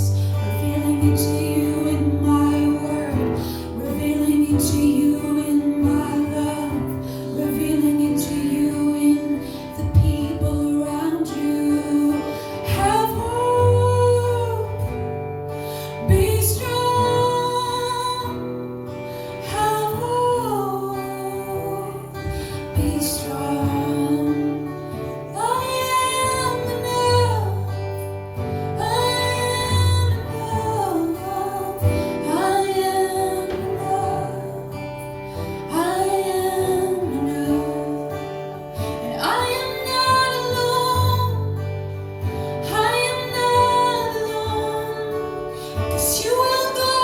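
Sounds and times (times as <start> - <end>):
plucked guitar: 0.0 - 47.0
woman singing: 0.0 - 47.0.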